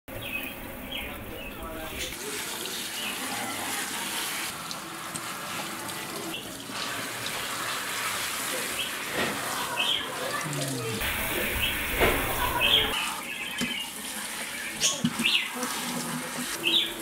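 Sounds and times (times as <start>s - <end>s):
faucet sprayer water spraying: 0.2s - 17.0s.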